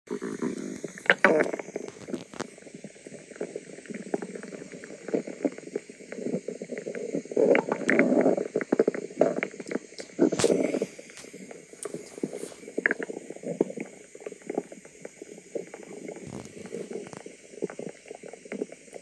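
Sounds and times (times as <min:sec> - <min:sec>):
stomach gurgling and rumbling: 0:00.1 - 0:19.0.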